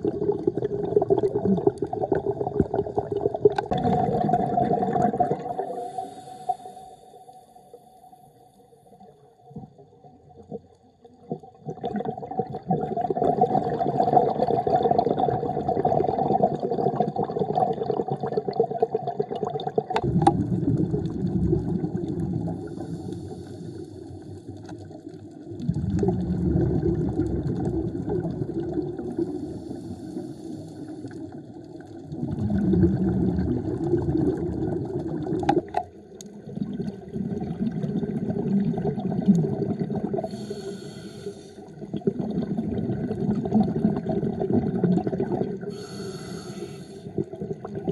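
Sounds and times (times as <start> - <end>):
diver exhaling bubbles underwater: 0.0 - 6.7, 11.2 - 41.0, 41.6 - 47.9.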